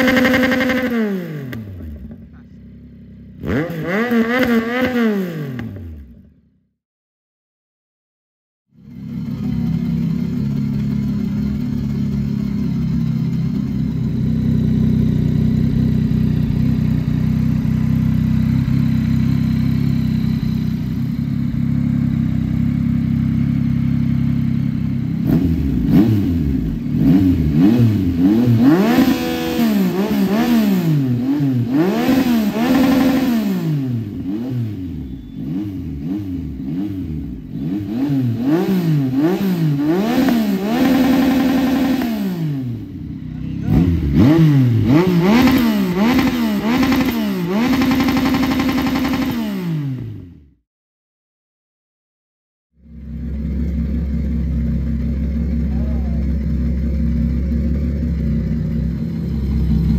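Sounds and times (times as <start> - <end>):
motorcycle engine idling and revving: 0.0 - 6.8, 8.7 - 50.6, 52.8 - 59.9.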